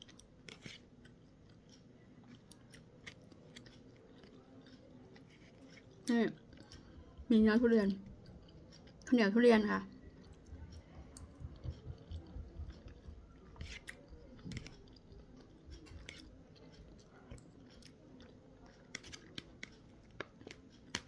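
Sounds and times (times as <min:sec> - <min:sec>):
close-up chewing: 0:00.0 - 0:21.0.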